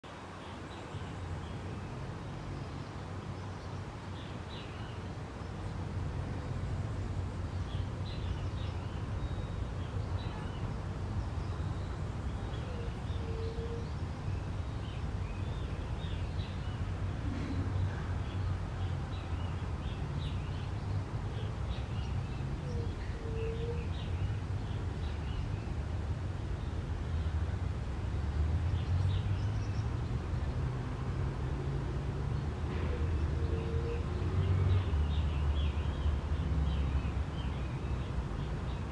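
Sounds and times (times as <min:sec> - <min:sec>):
small birds chirping: 0:00.1 - 0:31.6, 0:32.2 - 0:38.9.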